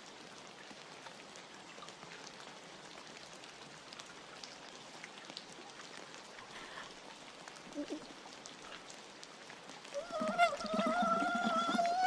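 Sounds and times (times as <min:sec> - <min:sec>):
raindrops ticking: 0:00.0 - 0:12.0
soft rain patter: 0:00.0 - 0:12.0.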